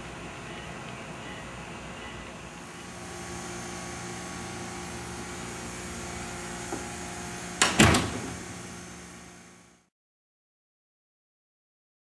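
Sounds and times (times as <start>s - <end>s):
room ventilation hum: 0.0s - 9.9s.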